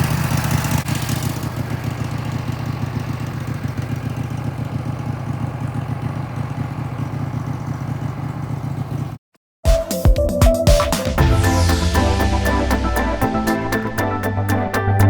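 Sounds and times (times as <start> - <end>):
sawmill engine running: 0.0 - 9.2, 11.2 - 15.0.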